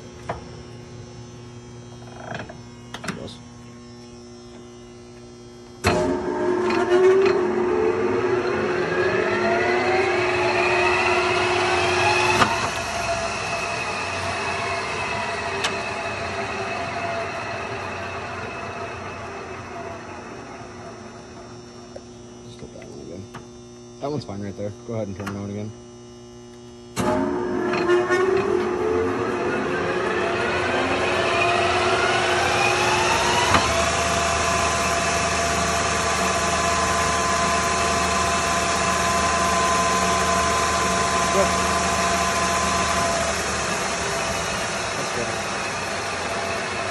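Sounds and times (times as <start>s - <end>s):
lathe whining: 4.0s - 23.1s, 27.0s - 46.9s.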